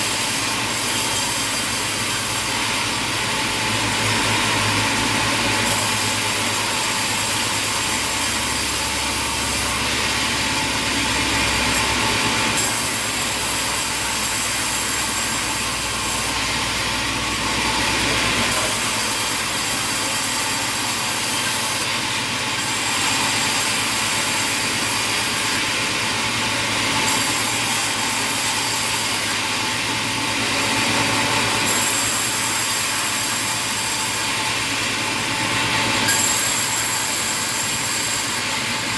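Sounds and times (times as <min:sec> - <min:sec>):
sawmill saws cutting timber: 0:00.0 - 0:38.9.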